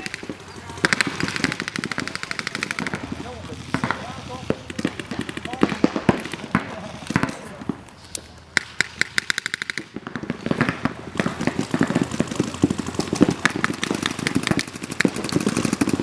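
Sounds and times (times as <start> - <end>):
paintball markers firing: 0.0 - 16.0.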